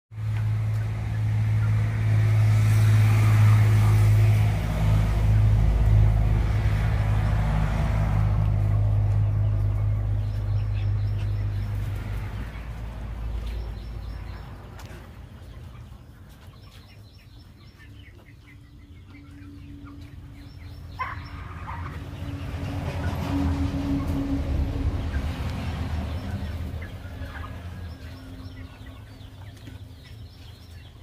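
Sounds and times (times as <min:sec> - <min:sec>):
vehicle engine drone: 0:00.2 - 0:16.0, 0:17.3 - 0:31.0
chickens clucking: 0:00.2 - 0:31.0.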